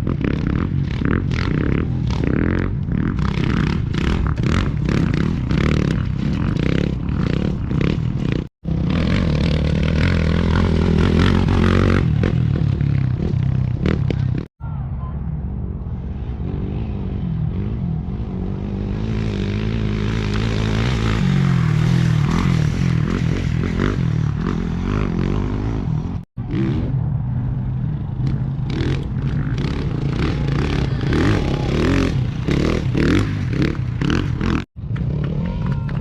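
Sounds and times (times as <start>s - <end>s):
motorcycle engines passing: 0.0s - 36.0s.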